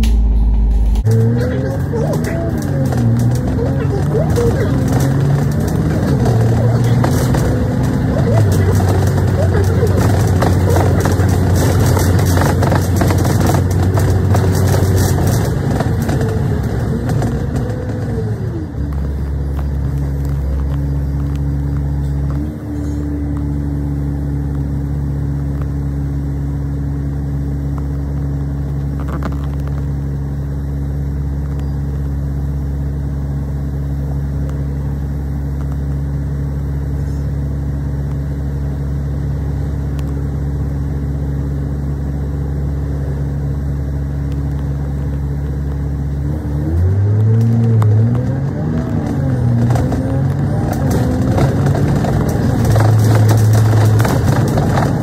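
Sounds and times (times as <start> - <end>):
bus engine idling: 0.0 - 55.0
bus engine running: 0.0 - 55.0
falling whine: 0.0 - 55.0.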